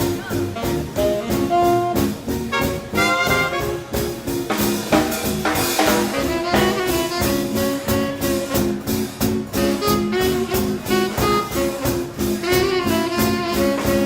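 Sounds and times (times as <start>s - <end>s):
saxophone: 0.0s - 4.4s, 5.8s - 14.0s
brass: 0.0s - 14.0s
drum kit beat: 0.0s - 14.0s.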